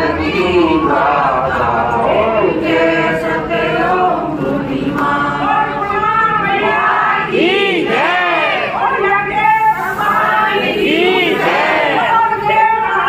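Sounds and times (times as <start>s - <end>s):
group singing devotional chant: 0.0s - 13.0s.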